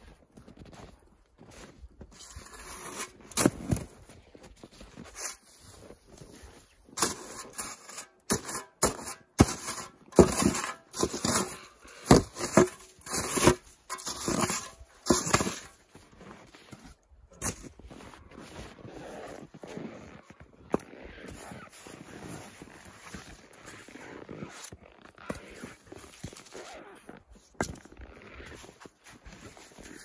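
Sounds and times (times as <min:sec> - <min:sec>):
metal shovel scraping snow: 0:01.6 - 0:30.0.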